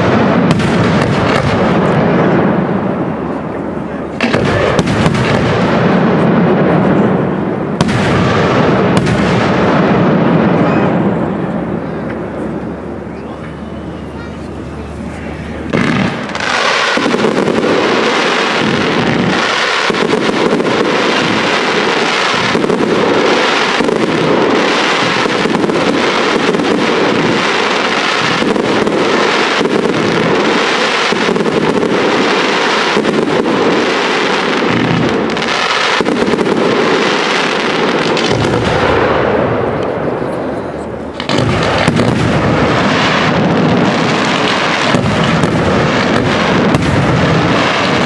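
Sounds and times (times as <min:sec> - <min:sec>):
fireworks bangs: 0:00.0 - 0:48.0
fireworks crackling: 0:00.0 - 0:48.0.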